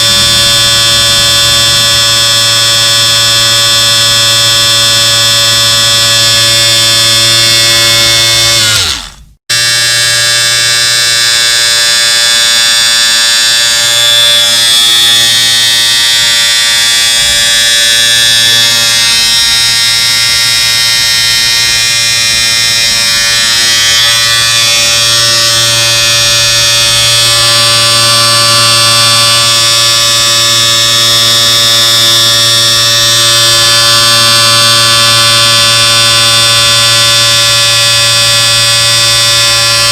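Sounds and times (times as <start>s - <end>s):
electric shaver buzzing: 0.0s - 39.9s.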